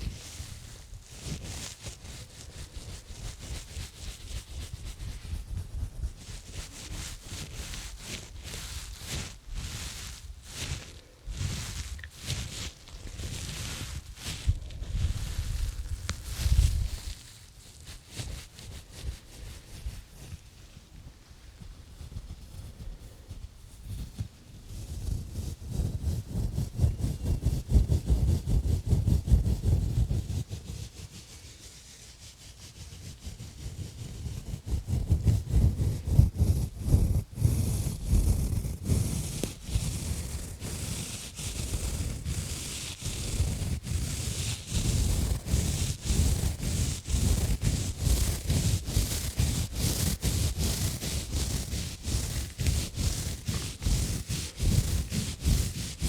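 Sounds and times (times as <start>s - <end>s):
gloves scratching microphone: 0.0s - 56.0s.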